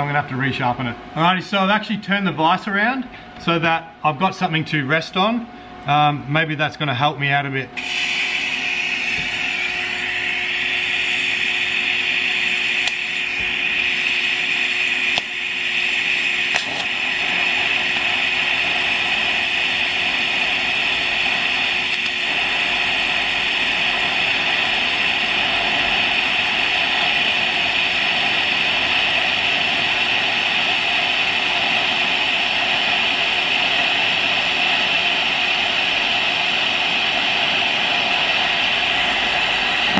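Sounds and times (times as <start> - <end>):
welding arc hissing: 7.8 - 39.9.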